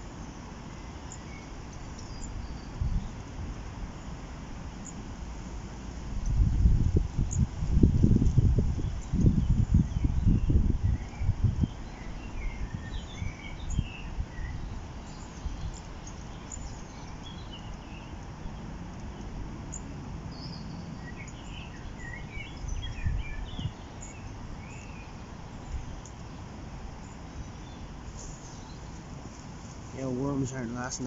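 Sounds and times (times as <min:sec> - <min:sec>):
small birds chirping: 0:00.0 - 0:05.0, 0:06.2 - 0:31.0
outdoor background hiss: 0:00.0 - 0:31.0.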